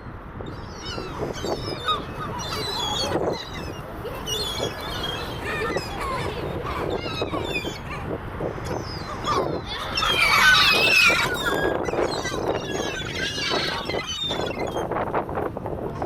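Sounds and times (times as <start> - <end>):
seagulls calling: 0.5 - 15.0.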